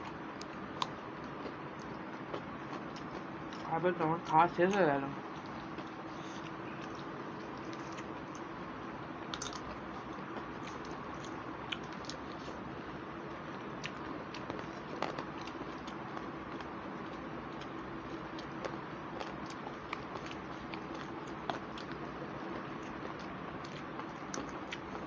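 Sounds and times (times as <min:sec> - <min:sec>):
soft chewing and lip-smacking: 0:00.0 - 0:25.0
steady background hum: 0:00.0 - 0:25.0.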